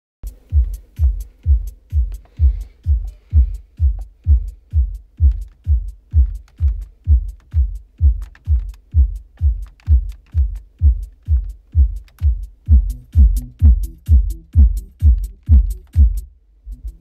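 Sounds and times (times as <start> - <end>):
electronic dance music: 0.2 - 16.9.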